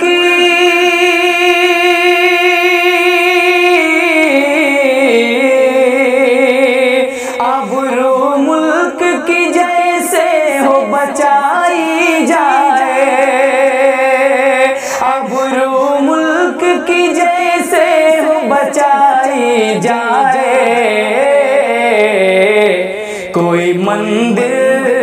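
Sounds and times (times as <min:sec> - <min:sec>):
man singing in a high voice: 0:00.0 - 0:25.0.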